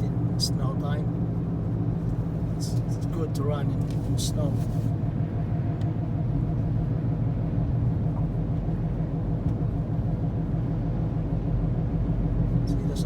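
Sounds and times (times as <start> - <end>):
car cabin drone at highway speed: 0.0 - 13.0
road noise: 0.0 - 13.0.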